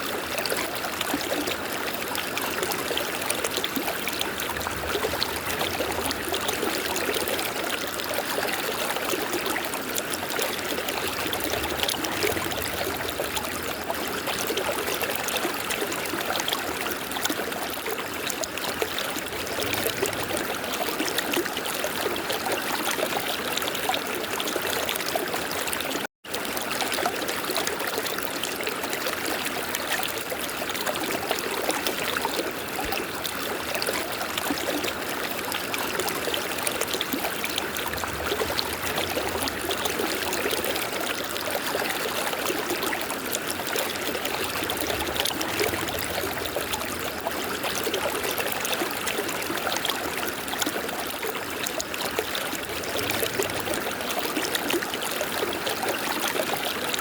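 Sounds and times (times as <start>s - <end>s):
river water rushing and trickling: 0.0s - 57.0s.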